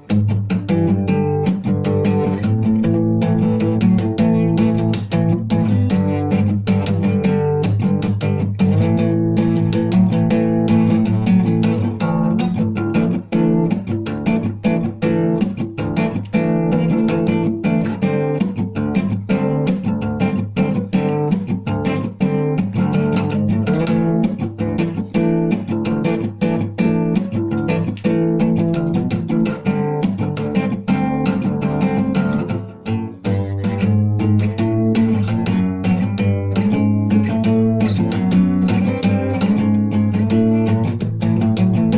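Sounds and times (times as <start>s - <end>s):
acoustic guitar playing: 0.0s - 41.9s.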